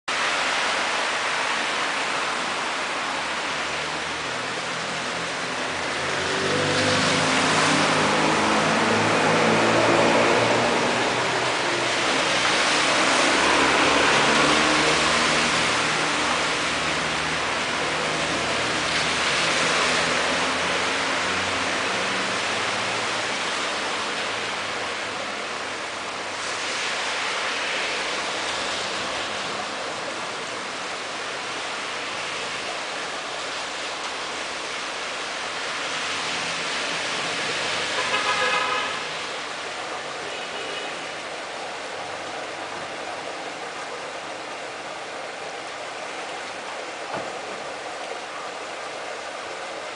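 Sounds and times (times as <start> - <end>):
heavy rain and runoff: 0.0 - 49.9
cars splashing through water: 0.1 - 49.9.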